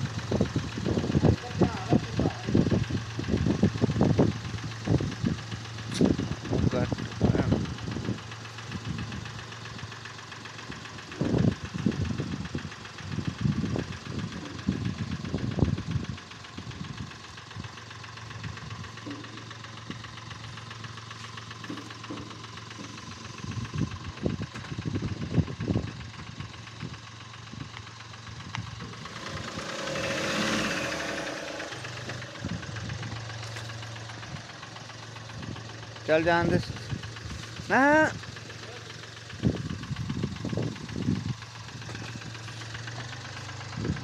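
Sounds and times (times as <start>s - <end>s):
diesel engine clattering: 0.0s - 44.0s.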